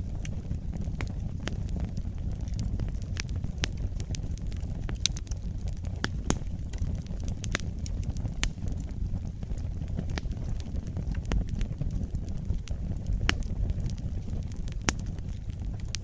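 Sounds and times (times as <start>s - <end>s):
low rumble of flame: 0.0s - 16.0s
wood fire crackling and popping: 0.0s - 16.0s.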